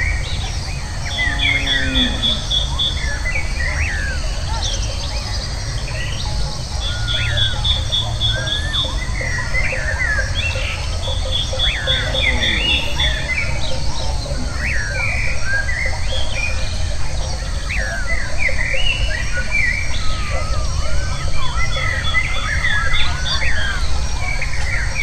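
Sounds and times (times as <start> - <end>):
birds chirping and whistling: 0.0 - 25.0.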